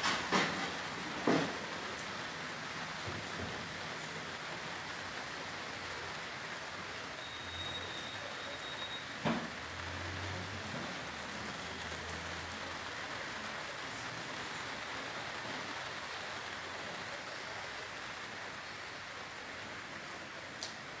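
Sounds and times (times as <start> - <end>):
heavy rain on grass: 0.0 - 21.0.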